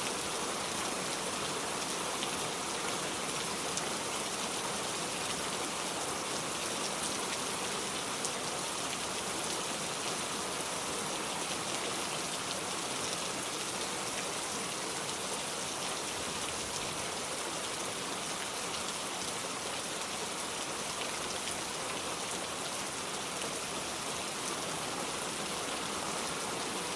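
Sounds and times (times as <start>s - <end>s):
steady rain: 0.0s - 26.9s.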